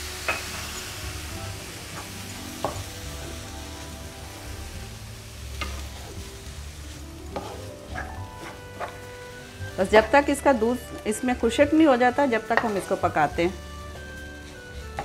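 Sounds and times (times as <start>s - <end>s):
chicken and onion sizzling in pan: 0.0s - 15.0s.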